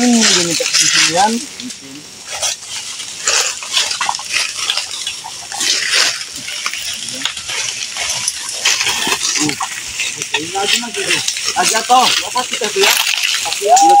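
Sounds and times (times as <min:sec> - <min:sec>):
wood crackling and clattering: 0:00.0 - 0:14.0.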